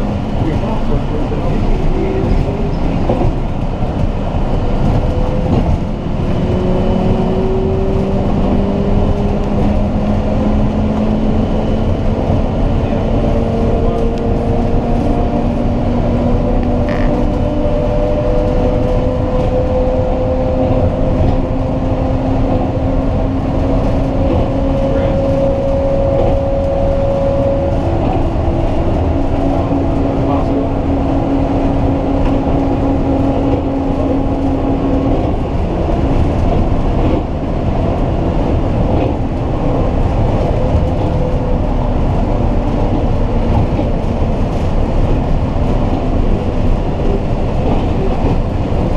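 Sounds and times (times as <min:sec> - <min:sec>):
train running gear rumble: 0:00.0 - 0:48.9.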